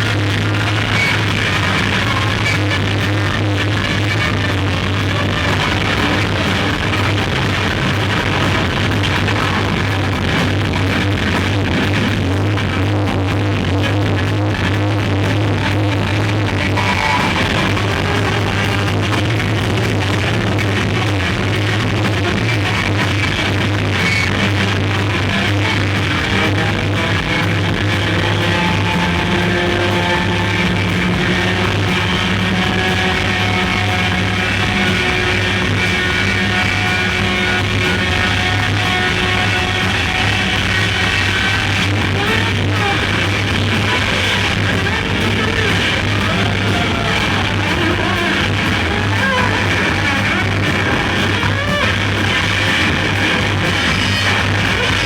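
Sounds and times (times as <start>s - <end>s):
bass drone: 0.0s - 55.0s
distorted electric guitar: 0.0s - 55.0s.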